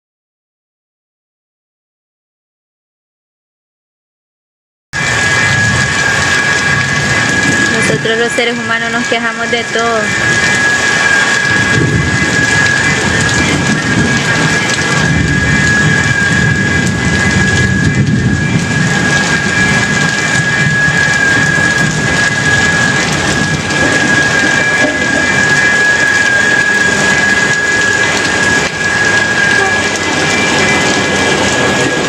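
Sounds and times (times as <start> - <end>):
heavy rain pouring: 5.0 - 32.0
low thunder rumble: 5.0 - 32.0.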